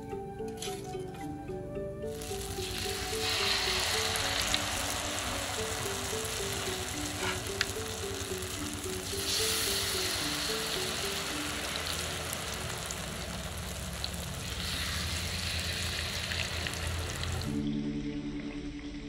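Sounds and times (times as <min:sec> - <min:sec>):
batter sizzling in frying oil: 0:02.1 - 0:17.6.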